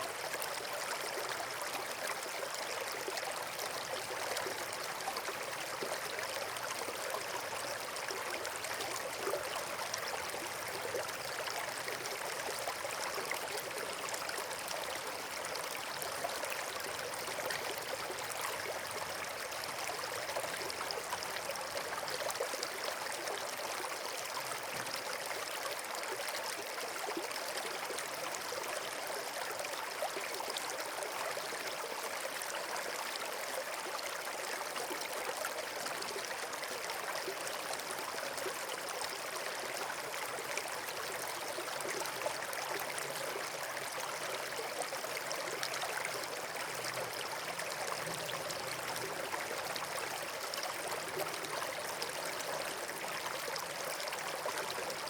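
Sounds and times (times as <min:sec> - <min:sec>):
rushing water: 0:01.4 - 0:55.0.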